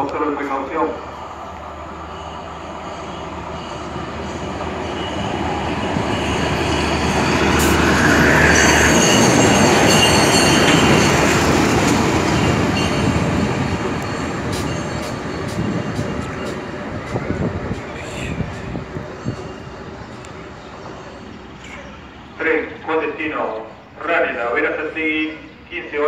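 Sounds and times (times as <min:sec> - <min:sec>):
rail vehicle engine hum: 0:00.0 - 0:26.0
steel wheels rumbling on rails: 0:01.1 - 0:22.4.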